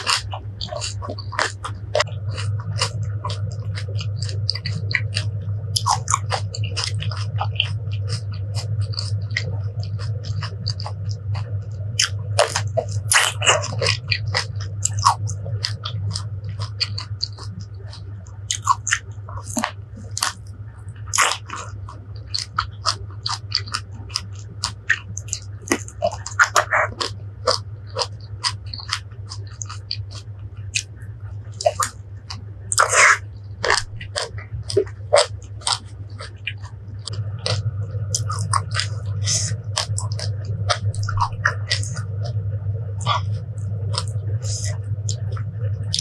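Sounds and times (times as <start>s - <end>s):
crunchy fruit chewing: 0.0s - 46.0s.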